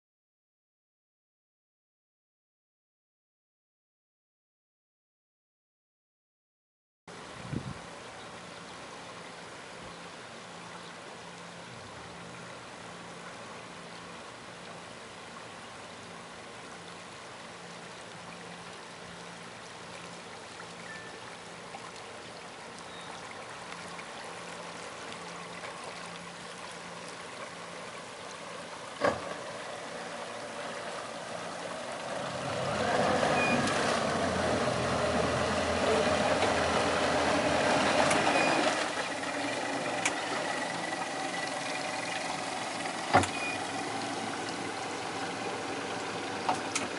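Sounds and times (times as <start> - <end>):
boat engine running: 7.9 - 46.9.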